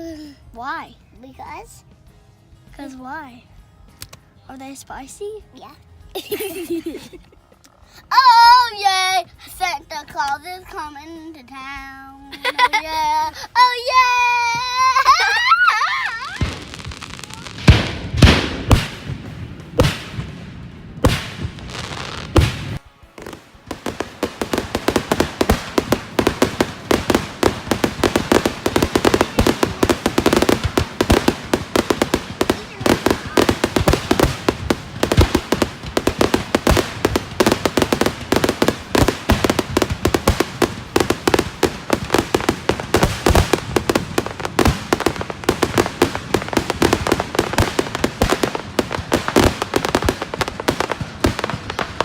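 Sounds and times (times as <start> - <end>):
fireworks crackling and popping: 3.9 - 52.0.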